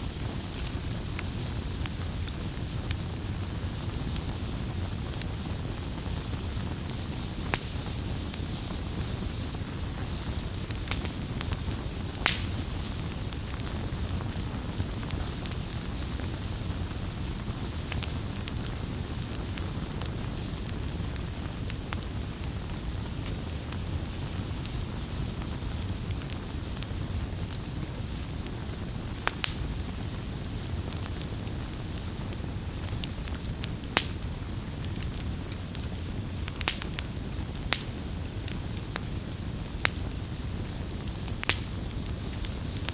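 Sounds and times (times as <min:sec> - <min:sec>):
burning wood popping and crackling: 0:00.0 - 0:42.9
low rumble of flames: 0:00.0 - 0:42.9.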